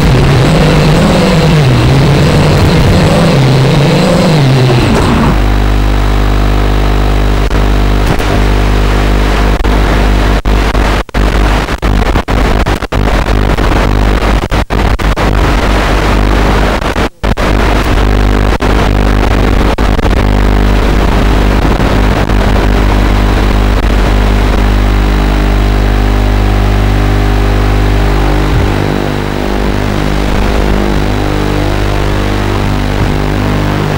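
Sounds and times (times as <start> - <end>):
electrical buzz and static hiss: 0.0 - 33.9.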